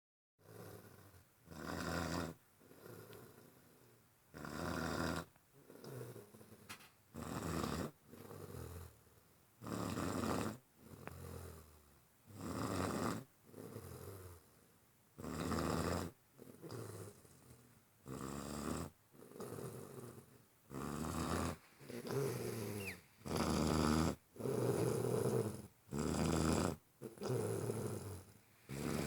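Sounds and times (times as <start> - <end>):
heavy snoring: 0.4 - 6.6, 7.2 - 9.0, 9.6 - 14.5, 15.2 - 29.0.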